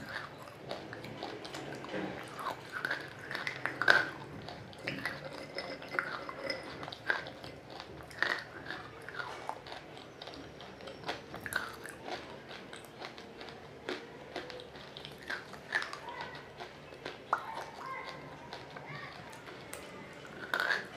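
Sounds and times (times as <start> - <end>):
wet crunchy chewing: 0.0 - 20.9.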